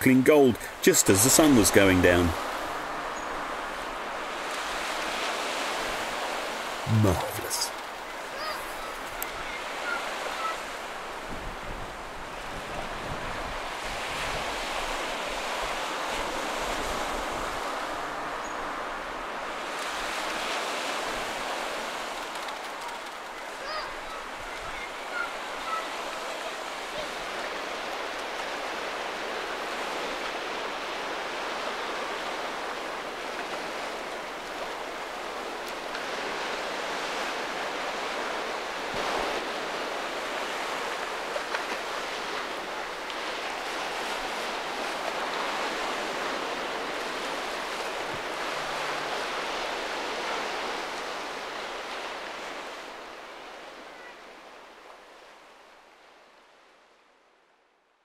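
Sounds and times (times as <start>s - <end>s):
sea waves washing: 0.0s - 54.4s.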